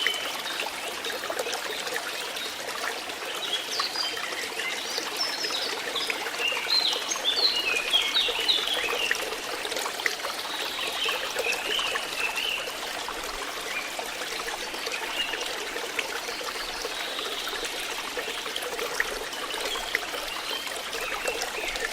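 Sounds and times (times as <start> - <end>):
water flowing and trickling: 0.0 - 21.9.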